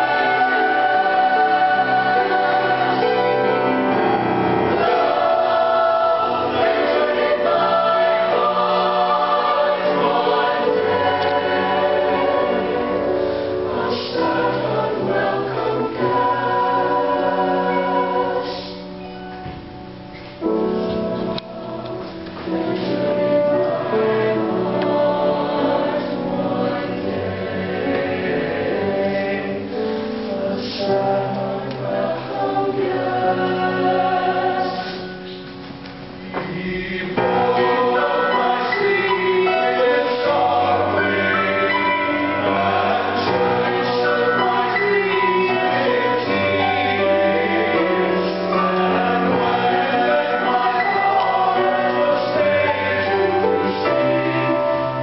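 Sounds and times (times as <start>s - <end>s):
mixed choir singing: 0.0s - 19.6s, 20.4s - 55.0s.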